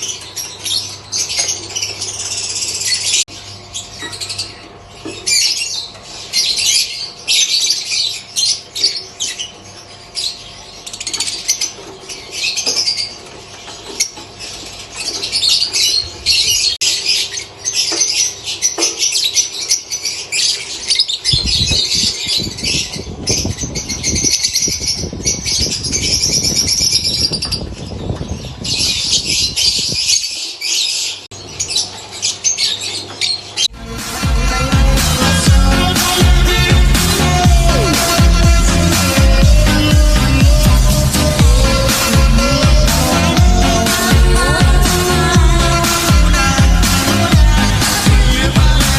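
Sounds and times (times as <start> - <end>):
lovebirds chirping and squawking: 0.0 - 48.9.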